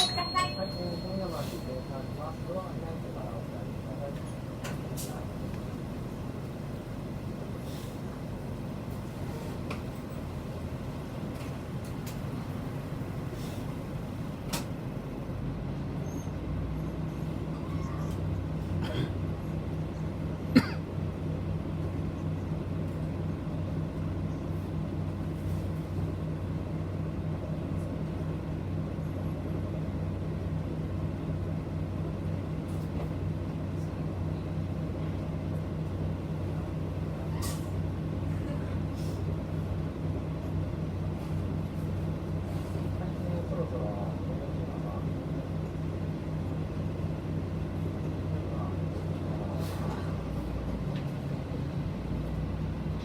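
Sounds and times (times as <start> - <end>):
bus diesel engine hum: 0.0 - 53.0.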